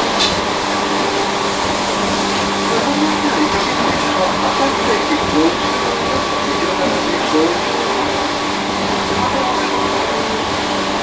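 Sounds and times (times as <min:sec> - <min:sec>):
wheel and rail noise: 0:00.0 - 0:11.0.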